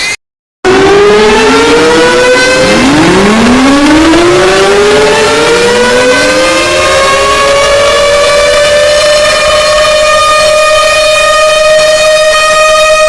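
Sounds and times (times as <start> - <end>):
sirens winding up: 0.6 - 13.0.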